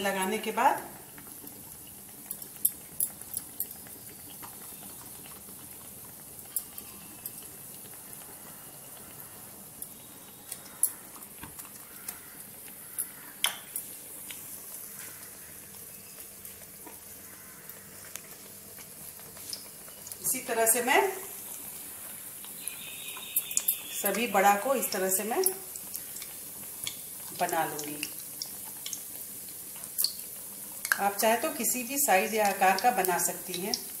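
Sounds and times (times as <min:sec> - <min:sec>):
faint steady hiss: 0:00.0 - 0:34.0.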